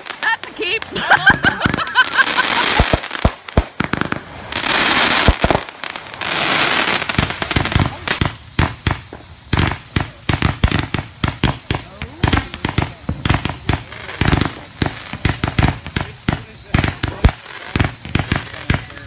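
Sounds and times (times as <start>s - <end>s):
fireworks bangs and crackling: 0.0s - 19.0s
whistling fireworks: 1.1s - 19.0s.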